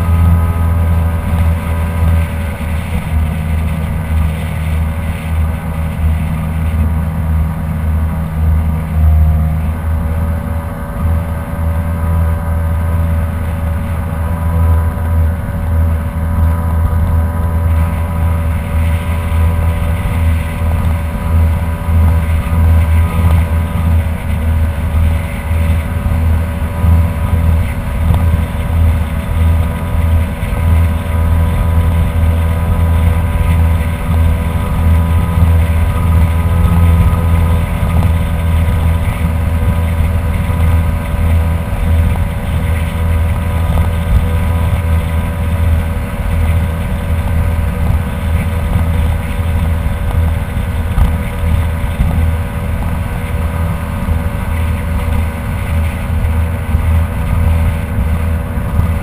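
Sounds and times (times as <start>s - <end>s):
jet ski engine running: 0.0s - 59.0s
wind noise on microphone: 0.0s - 59.0s.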